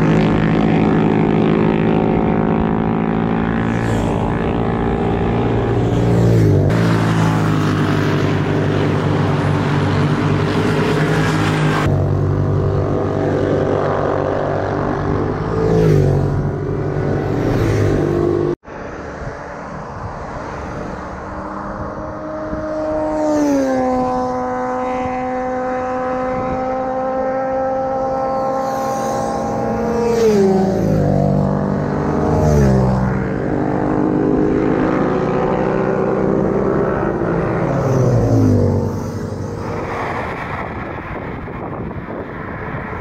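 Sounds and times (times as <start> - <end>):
motorcycles passing: 0.0 - 43.0.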